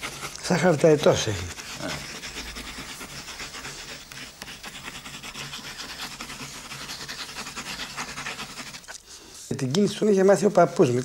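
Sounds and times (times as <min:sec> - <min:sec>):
paper rubbing and scratching: 0:00.0 - 0:11.0.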